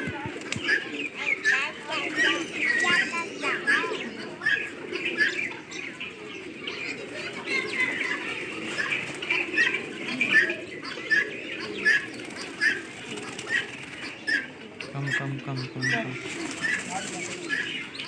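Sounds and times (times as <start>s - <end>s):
wings flapping: 0.0s - 5.3s, 6.8s - 15.2s, 15.8s - 18.0s
birds chirping: 0.0s - 18.0s.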